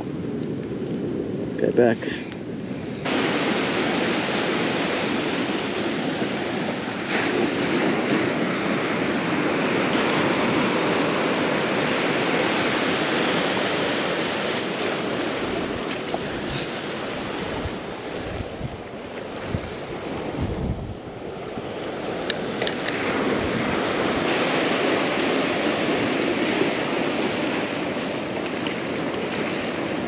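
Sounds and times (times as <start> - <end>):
surf breaking on rocks: 3.0 - 20.7, 21.9 - 30.0.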